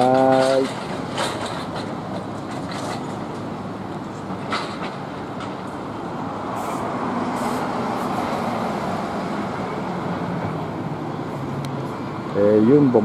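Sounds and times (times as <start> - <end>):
road traffic noise: 0.0 - 13.0
vehicle engines droning: 0.0 - 13.0.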